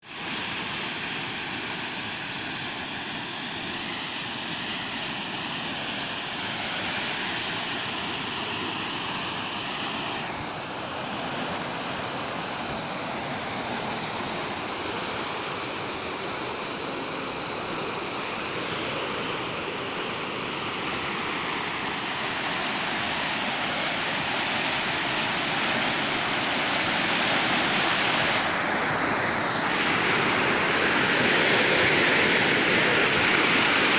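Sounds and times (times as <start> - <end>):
water rushing over a fall: 0.0 - 33.9.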